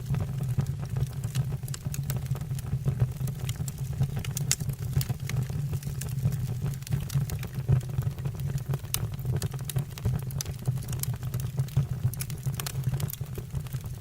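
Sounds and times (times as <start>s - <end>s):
fire low rumble: 0.0s - 14.0s
wood fire crackling: 0.0s - 14.0s.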